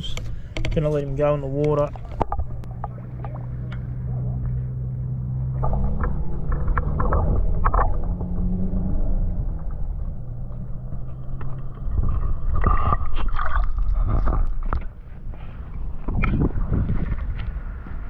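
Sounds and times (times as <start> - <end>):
steady low hum: 0.0 - 18.0
underwater gurgling and sloshing: 0.0 - 18.0.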